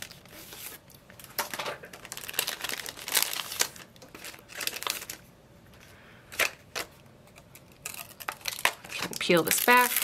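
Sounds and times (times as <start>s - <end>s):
plastic packaging crinkling: 0.0s - 5.3s, 6.3s - 10.0s.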